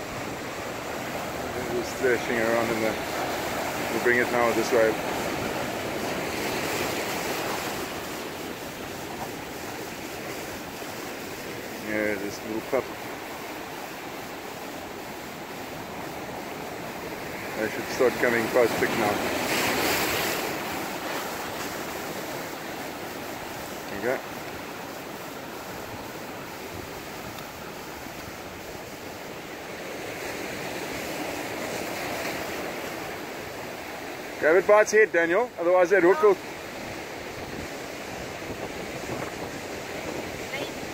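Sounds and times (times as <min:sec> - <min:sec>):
ocean surf on rocks: 0:00.0 - 0:40.9.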